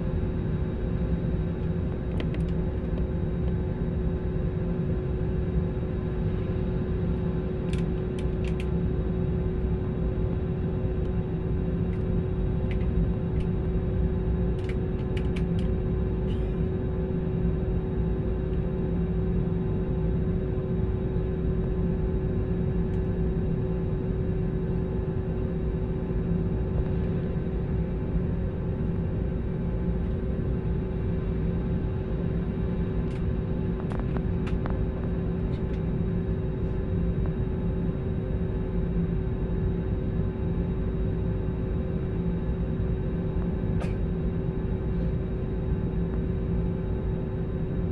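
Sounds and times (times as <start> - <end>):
airliner cabin engine rumble: 0.0 - 47.9
constant hum: 0.0 - 47.9.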